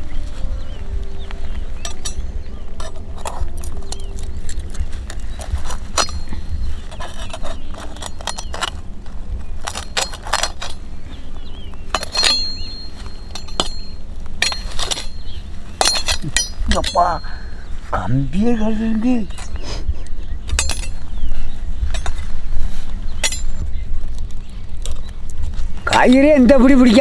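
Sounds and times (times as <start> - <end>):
birds chirping faintly: 0.0 - 27.0.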